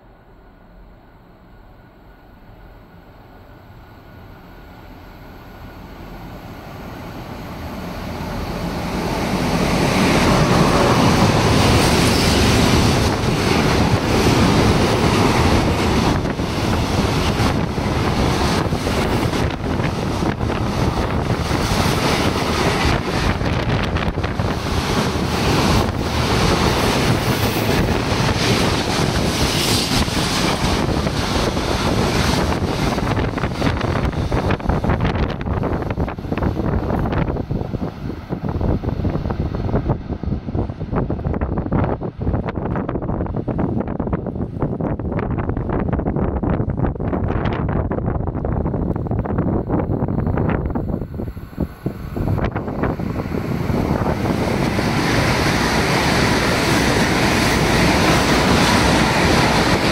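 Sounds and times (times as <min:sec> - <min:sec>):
trains passing at speed: 0:00.0 - 0:59.9
rush of wheels and air: 0:04.5 - 0:59.9
wind buffeting microphone: 0:06.2 - 0:59.9.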